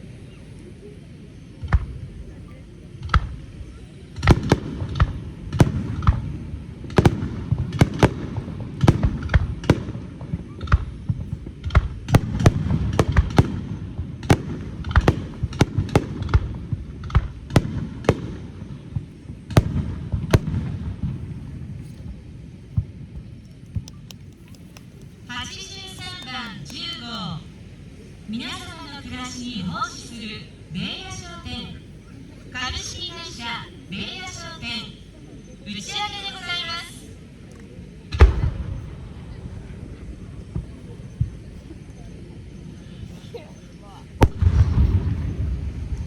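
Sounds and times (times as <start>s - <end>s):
continuous low rumble: 0.0s - 46.0s.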